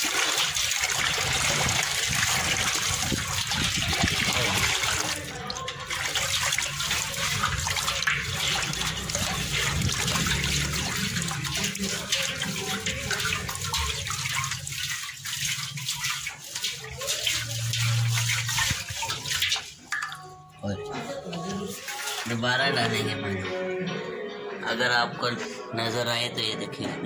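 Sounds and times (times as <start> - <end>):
water pouring into metal basin: 0.0 - 23.1.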